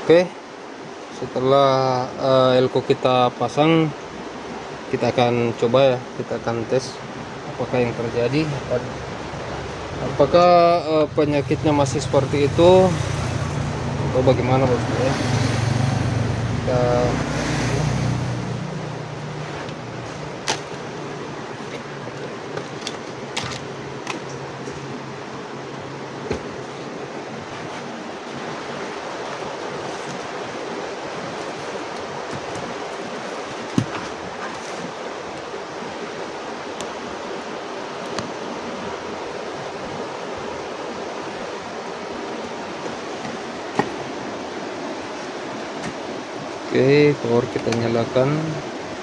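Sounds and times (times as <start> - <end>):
steady background hiss: 0.0 - 49.0
steady rushing noise: 3.4 - 49.0.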